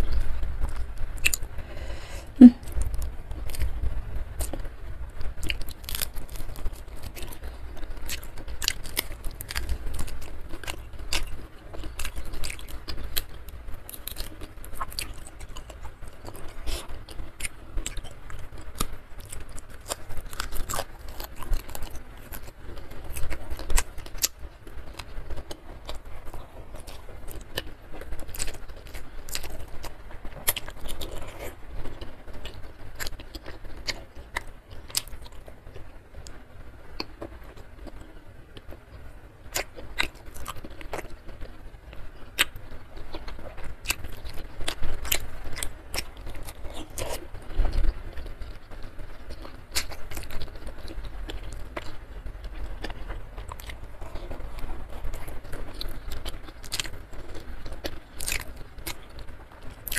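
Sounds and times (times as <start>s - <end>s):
chewing and crunching: 0.0s - 59.9s.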